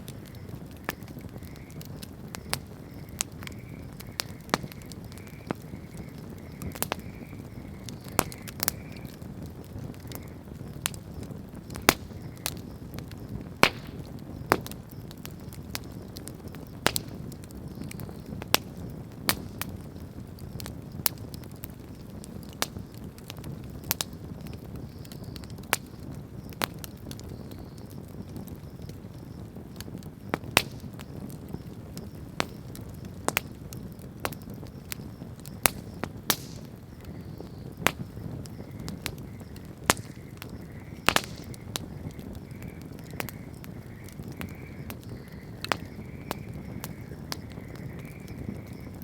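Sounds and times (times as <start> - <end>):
campfire crackling pops: 0.0 - 49.0
flames rushing: 0.0 - 49.0.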